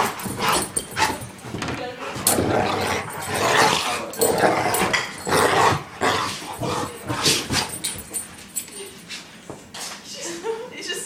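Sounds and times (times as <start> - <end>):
dogs growling: 0.0 - 8.9
dogs snorting and sneezing: 0.0 - 9.1.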